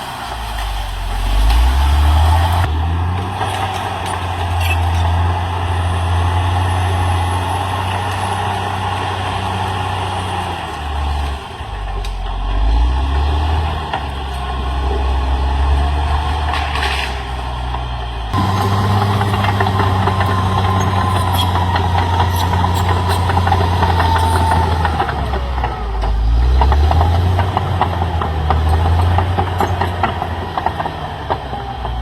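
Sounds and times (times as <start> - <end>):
bulldozer diesel engine: 0.0 - 32.0.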